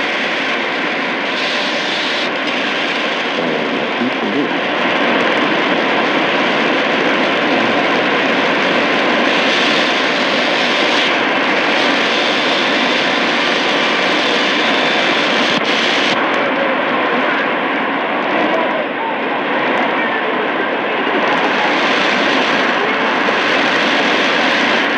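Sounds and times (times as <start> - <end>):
shortwave radio static hiss: 0.0 - 24.9.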